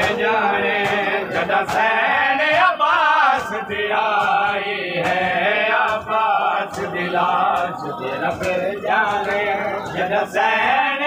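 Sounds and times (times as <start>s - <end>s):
sharp slaps: 0.0s - 10.2s
men chanting a lament: 0.0s - 11.0s.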